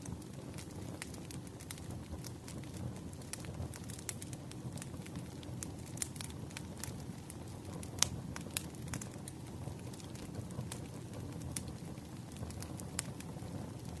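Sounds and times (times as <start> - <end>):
fire crackling and popping: 0.0 - 14.0
wood fire rumbling: 0.0 - 14.0.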